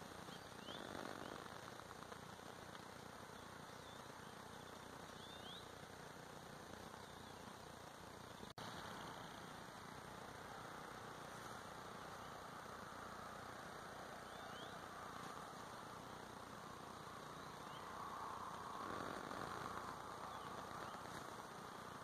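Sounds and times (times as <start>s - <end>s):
faint bird chirps: 0.0s - 9.4s, 11.2s - 22.0s
steady low hiss: 0.0s - 22.0s.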